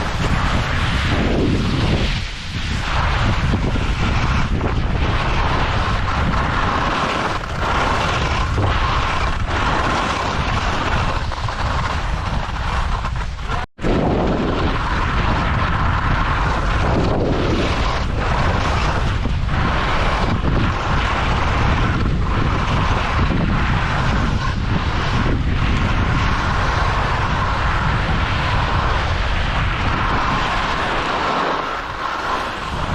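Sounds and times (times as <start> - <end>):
strong wind buffeting microphone: 0.0 - 32.9.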